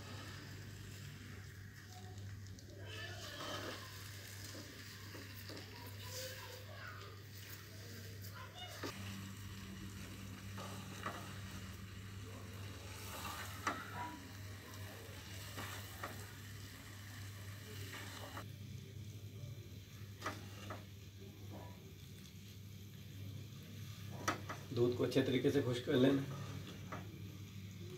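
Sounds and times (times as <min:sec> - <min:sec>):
food sizzling in a wok: 0:00.0 - 0:27.9.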